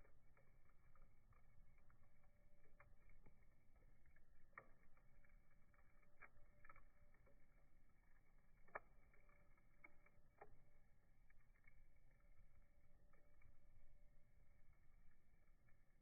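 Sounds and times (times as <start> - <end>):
faint campfire crackling: 0.0 - 16.0.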